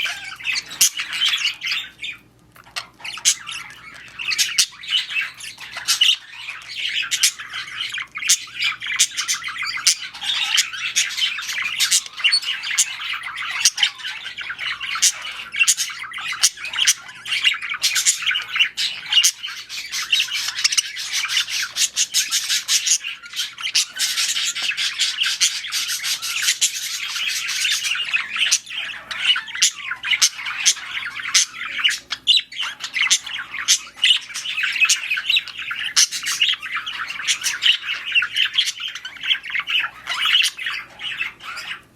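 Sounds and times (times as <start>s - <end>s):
budgerigars chattering and squawking: 0.0s - 41.9s.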